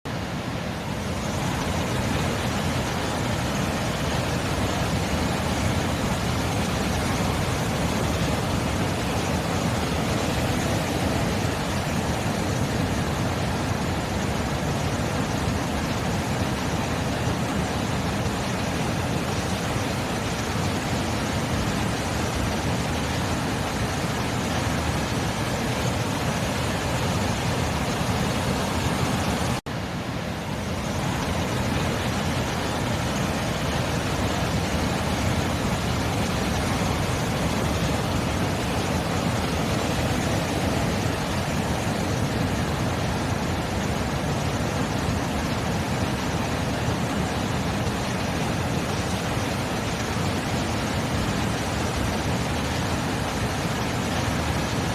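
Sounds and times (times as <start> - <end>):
ocean surf rushing: 0.1 - 54.9.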